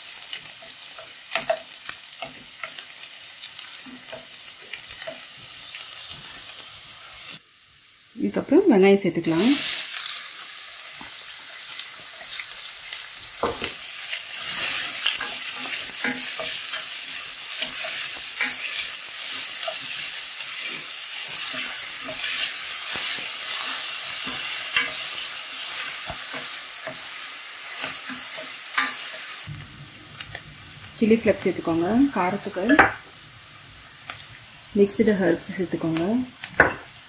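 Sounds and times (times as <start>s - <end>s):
onions sizzling in hot oil: 0.0s - 37.0s.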